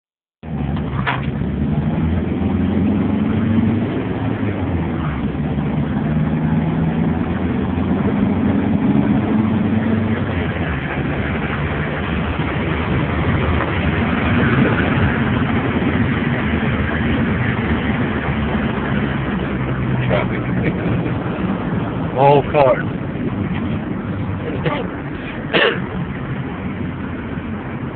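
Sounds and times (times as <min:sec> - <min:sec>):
car engine hum: 0:00.4 - 0:27.9
road noise: 0:00.4 - 0:27.9.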